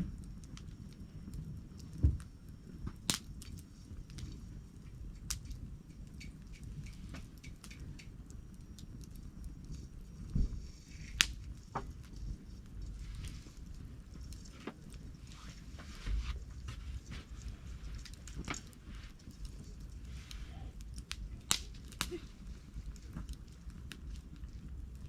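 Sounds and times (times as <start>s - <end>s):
steady low rumble: 0.0s - 7.4s, 8.0s - 25.0s
campfire crackling and popping: 0.0s - 25.0s.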